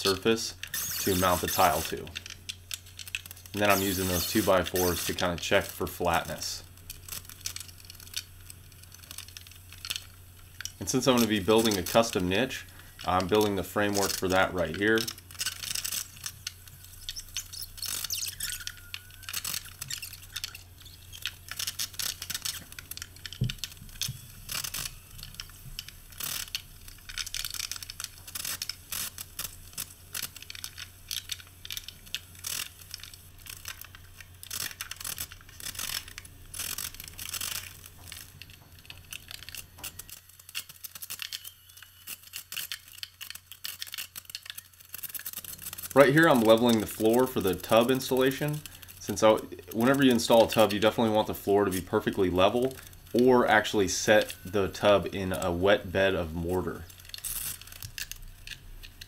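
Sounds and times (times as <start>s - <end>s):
low steady hum: 0.0s - 43.2s, 44.3s - 59.0s
rapid clicks and scrapes: 0.0s - 59.0s.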